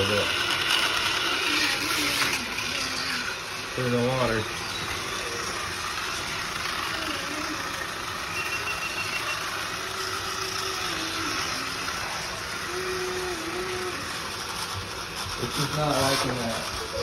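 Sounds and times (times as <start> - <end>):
toy car electric motor whirring: 0.0 - 17.0.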